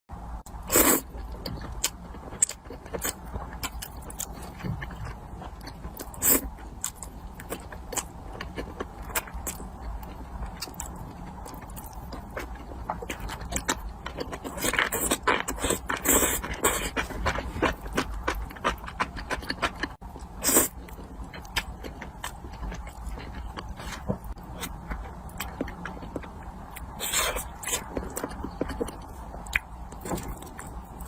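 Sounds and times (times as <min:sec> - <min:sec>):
person chewing and crunching food: 0:00.5 - 0:31.0.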